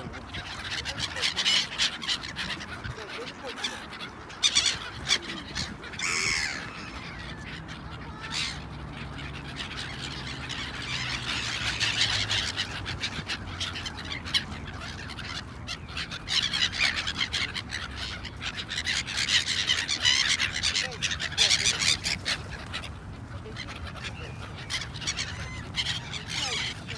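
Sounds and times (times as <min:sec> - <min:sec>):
gulls calling: 0:00.0 - 0:26.9.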